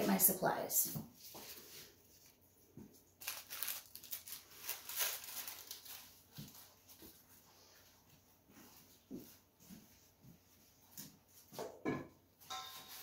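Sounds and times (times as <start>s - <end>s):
rustling and handling noises: 0.8s - 11.6s.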